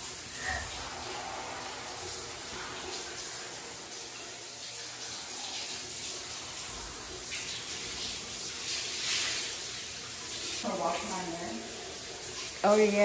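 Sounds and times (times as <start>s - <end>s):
shower water spraying: 0.0s - 13.0s.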